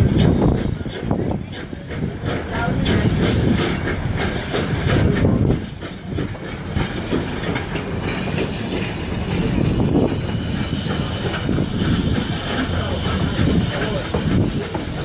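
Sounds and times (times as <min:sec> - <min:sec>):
railroad car wheels rumbling on rails: 0:00.0 - 0:15.0.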